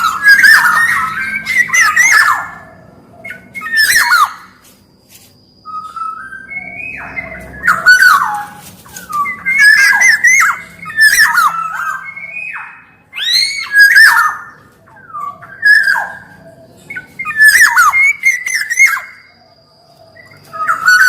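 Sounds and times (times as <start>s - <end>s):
bird singing fluty whistles: 0.0s - 4.6s, 5.4s - 21.0s
harsh squawky bird calls: 0.0s - 21.0s.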